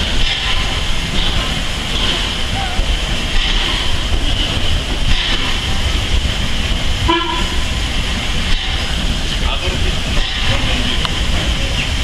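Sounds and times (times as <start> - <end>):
steam train rumbling past: 0.0 - 12.0.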